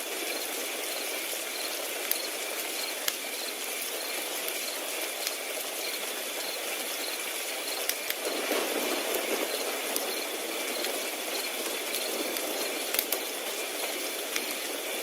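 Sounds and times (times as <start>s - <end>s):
crickets chirping: 0.0s - 15.0s
wood fire hissing: 0.0s - 15.0s
fire crackle pops: 1.5s - 15.0s.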